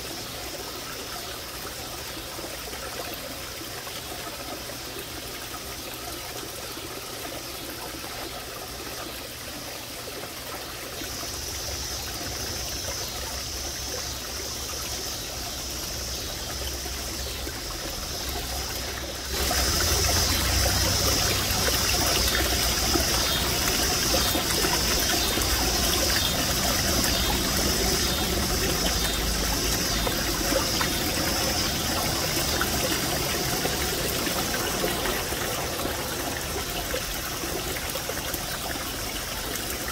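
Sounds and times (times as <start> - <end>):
waterfall trickling into pond: 0.0 - 39.9.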